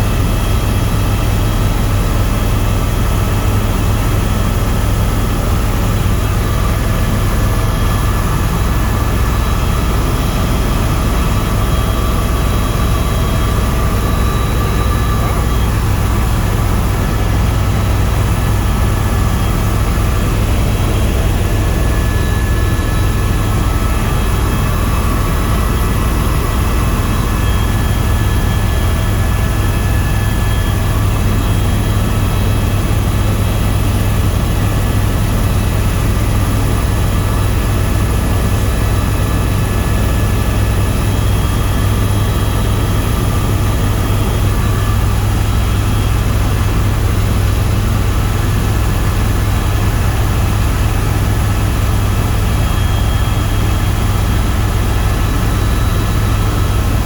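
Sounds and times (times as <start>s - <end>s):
helicopter rotor and turbine drone: 0.0s - 57.0s.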